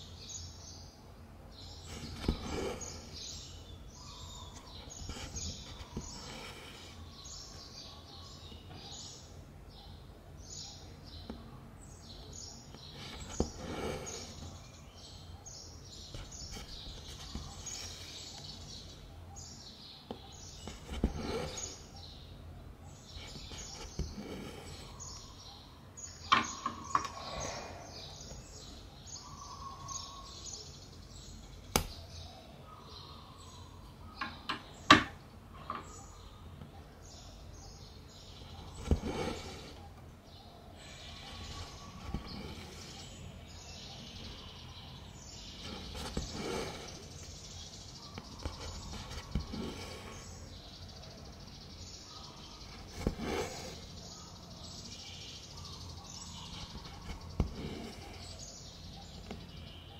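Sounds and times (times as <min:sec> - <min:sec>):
background noise: 0:00.0 - 0:59.9
small birds chirping: 0:00.0 - 0:59.9.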